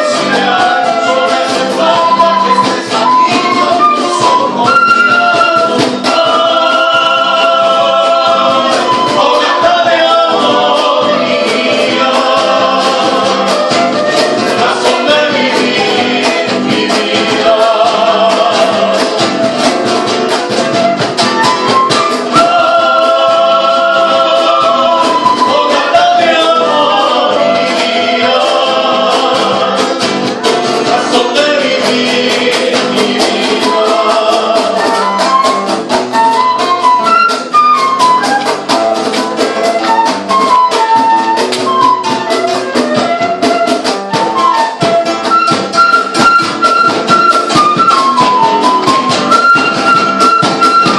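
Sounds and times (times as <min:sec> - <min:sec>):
fast steady percussion: 0:00.0 - 0:50.9
latin band playing and singing: 0:00.0 - 0:50.9.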